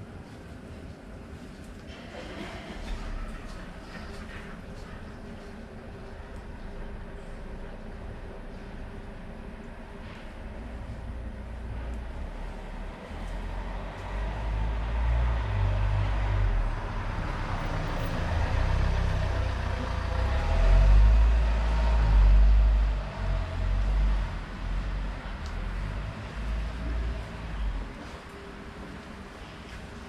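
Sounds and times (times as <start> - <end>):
vehicle passing with engine rumble: 2.9 - 28.6.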